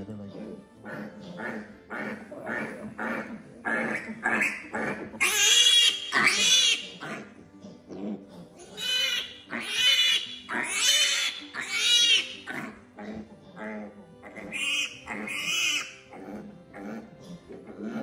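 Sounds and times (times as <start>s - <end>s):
piglet squealing: 0.3s - 18.0s.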